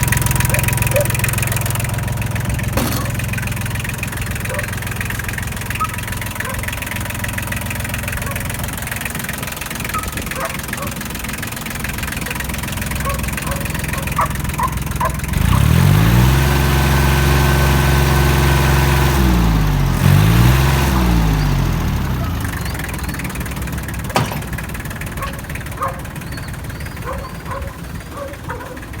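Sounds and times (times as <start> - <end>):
tractor diesel engine revving: 0.0 - 29.0.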